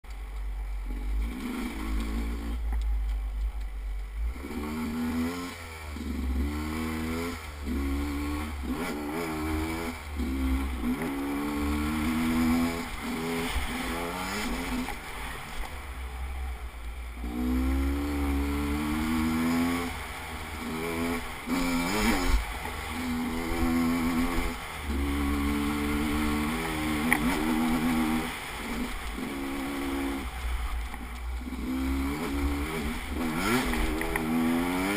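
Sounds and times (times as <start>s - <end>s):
vehicle engine revving: 0.6s - 15.7s, 17.1s - 34.9s.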